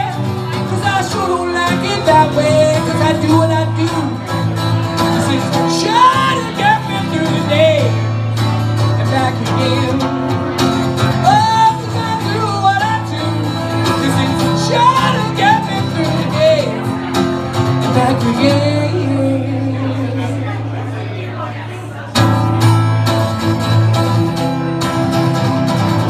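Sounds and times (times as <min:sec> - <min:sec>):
man singing: 0:00.0 - 0:22.0
acoustic guitar chords: 0:00.0 - 0:26.0.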